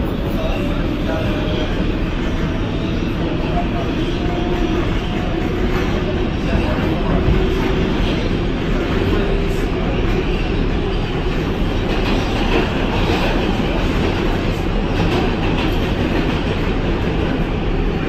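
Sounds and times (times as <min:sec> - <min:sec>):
subway train wheels rumbling: 0:00.0 - 0:18.0.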